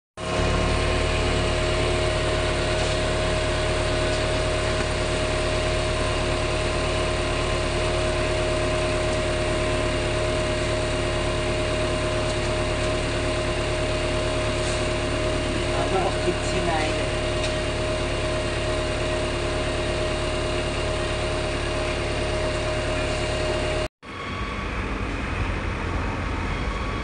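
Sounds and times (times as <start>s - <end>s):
engine idling with whine: 0.2s - 27.0s.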